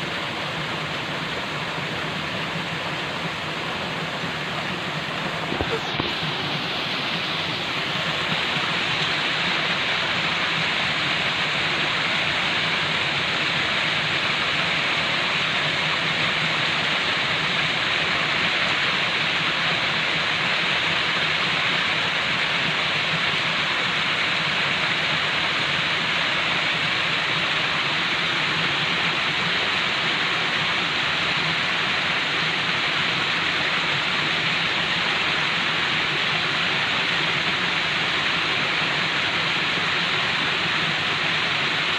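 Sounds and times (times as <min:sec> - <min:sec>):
falling water rushing: 0:00.0 - 0:41.9.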